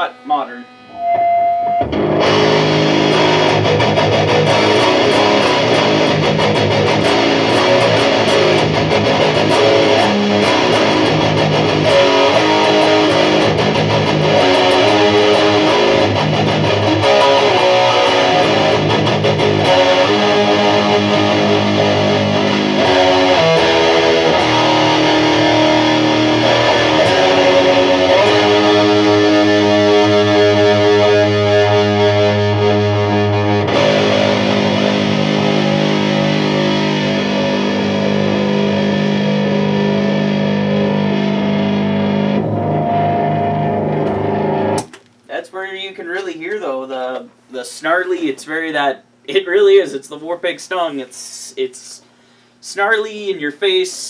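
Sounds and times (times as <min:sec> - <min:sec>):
distorted electric guitar riffs: 0:00.0 - 0:44.9.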